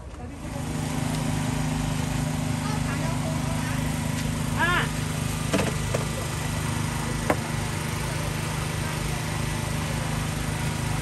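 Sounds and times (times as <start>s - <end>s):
portable generator humming: 0.2s - 11.0s.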